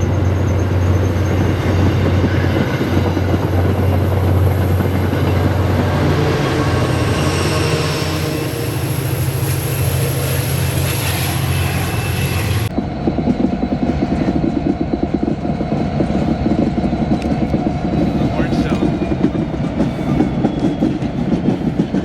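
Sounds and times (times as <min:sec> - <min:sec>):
diesel locomotive engine drone: 0:00.0 - 0:22.0
throbbing train rumble: 0:00.0 - 0:22.0.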